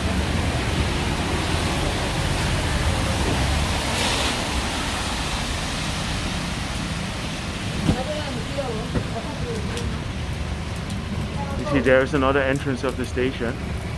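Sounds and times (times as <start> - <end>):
low traffic rumble: 0.0 - 13.9
rain hiss: 0.0 - 13.9.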